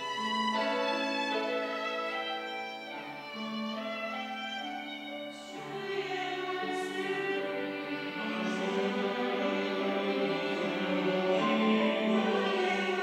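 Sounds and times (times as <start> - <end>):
church choir singing: 0.0 - 13.0
instrumental accompaniment: 0.0 - 13.0.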